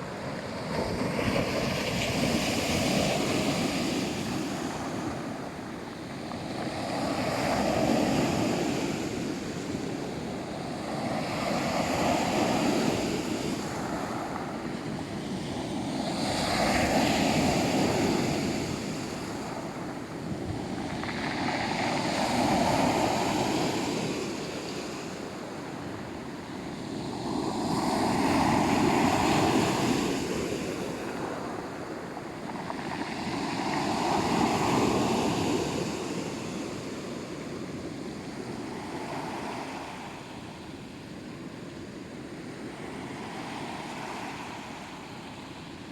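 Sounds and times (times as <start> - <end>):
sea waves surging and ebbing: 0.0 - 45.9.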